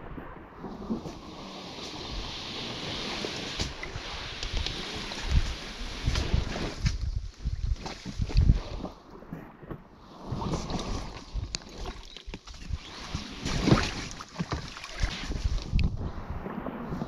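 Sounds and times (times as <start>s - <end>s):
canoe knocking and scraping: 0.6s - 16.0s.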